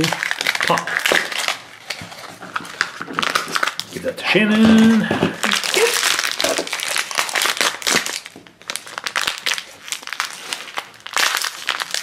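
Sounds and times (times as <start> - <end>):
plastic wrapper crackling: 0.0 - 12.0.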